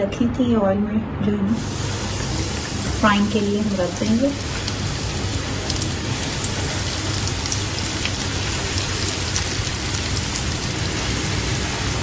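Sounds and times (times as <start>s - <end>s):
chicken deep-frying in oil: 1.6s - 12.0s.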